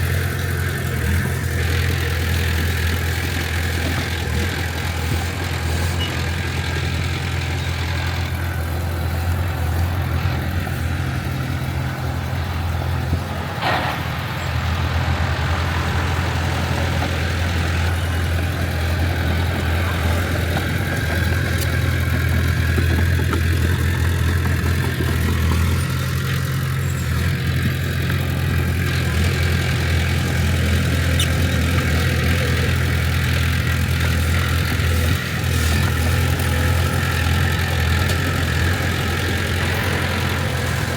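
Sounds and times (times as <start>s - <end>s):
diesel engine of heavy machinery: 0.0s - 40.9s.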